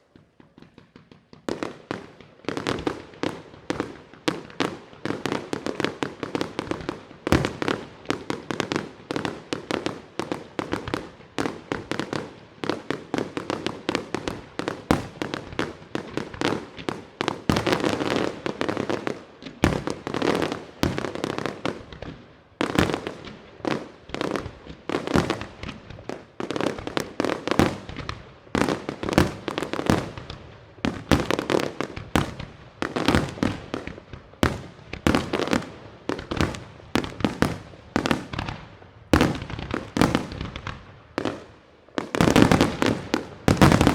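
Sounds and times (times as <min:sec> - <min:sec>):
fireworks bursting: 0:00.0 - 0:43.9.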